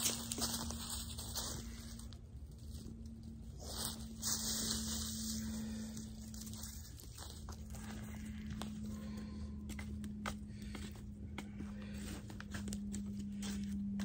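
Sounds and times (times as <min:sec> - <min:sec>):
footsteps in dry leaves: 0:00.0 - 0:09.7, 0:10.5 - 0:14.0
steady low hum: 0:00.0 - 0:14.0.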